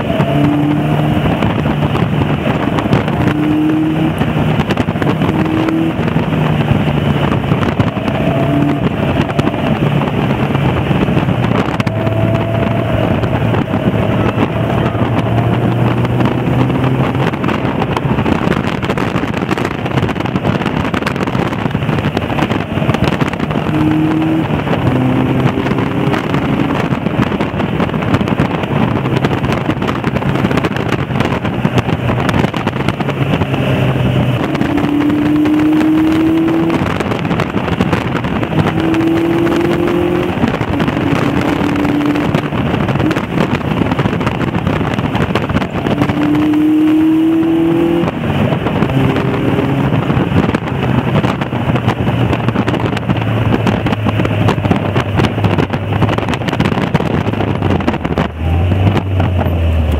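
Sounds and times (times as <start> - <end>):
car engine shifting gears: 0.0 - 59.9
wind and road noise: 0.0 - 59.9.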